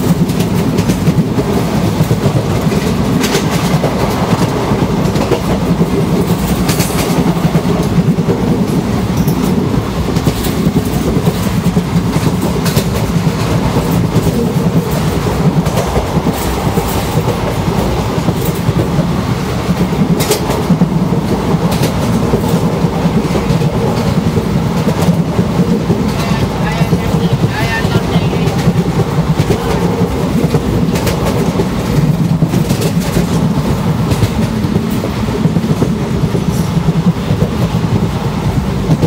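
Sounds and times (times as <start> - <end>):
rail joint clacks: 0.0 - 39.0
train wheels rumbling on track: 0.0 - 39.0
rushing air: 1.3 - 39.0.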